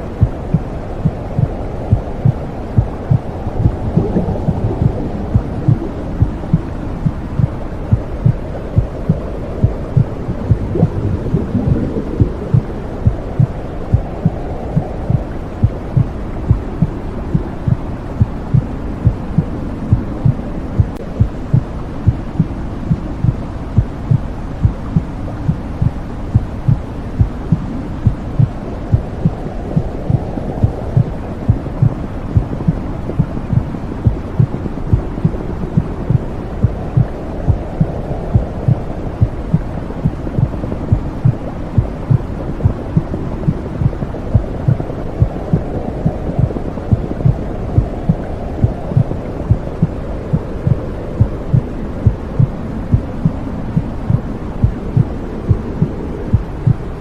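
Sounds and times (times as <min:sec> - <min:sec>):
low whooshing rumble: 0:00.0 - 0:57.0
heartbeat thumping: 0:00.2 - 0:56.9.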